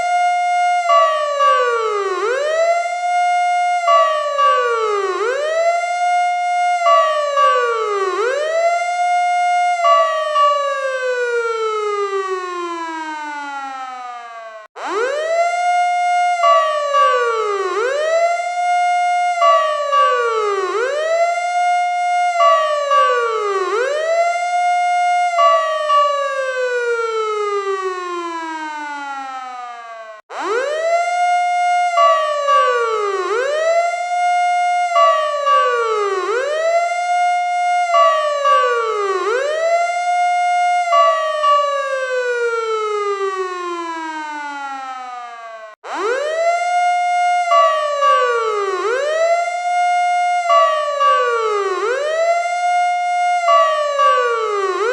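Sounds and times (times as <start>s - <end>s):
fire truck siren wailing: 0.0s - 54.9s.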